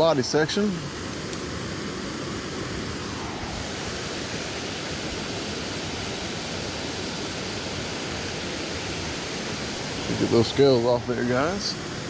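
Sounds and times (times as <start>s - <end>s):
water rushing over waterfall: 0.0s - 12.0s.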